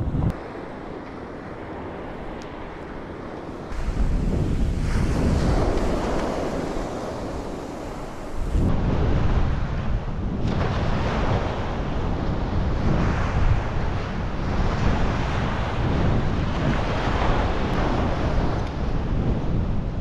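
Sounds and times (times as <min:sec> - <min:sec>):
wind rumbling on microphone: 0:00.0 - 0:20.0
waves breaking on a beach: 0:00.3 - 0:20.0.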